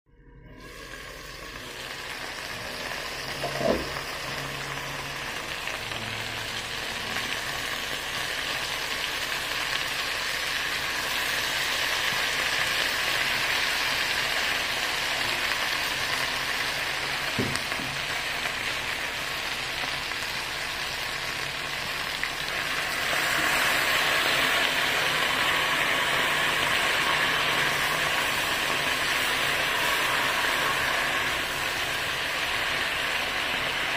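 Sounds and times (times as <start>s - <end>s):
chicken sizzling in wok: 0.3s - 33.9s.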